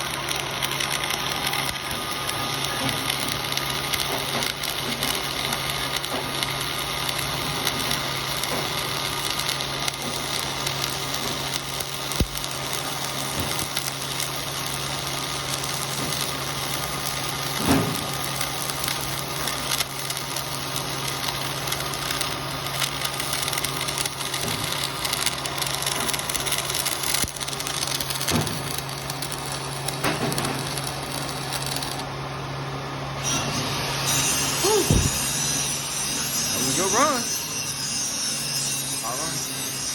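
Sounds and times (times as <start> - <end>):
sharp welding pops: 0.0 - 32.1, 34.6 - 35.6
welding arc crackling: 0.0 - 39.9.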